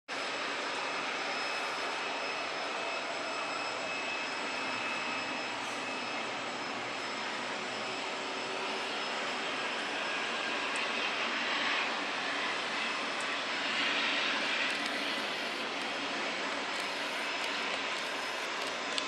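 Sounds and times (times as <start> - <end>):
high-pitched engine whine: 0.1 - 19.0
jet engines taxiing: 0.1 - 19.0.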